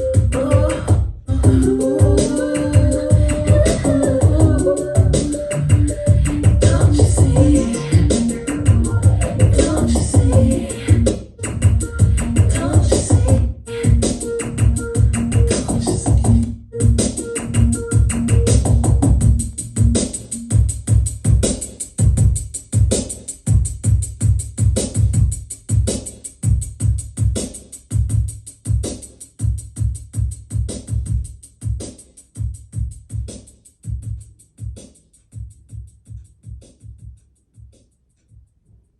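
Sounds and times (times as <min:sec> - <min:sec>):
electronic music with drum-machine beat: 0:00.0 - 0:38.9.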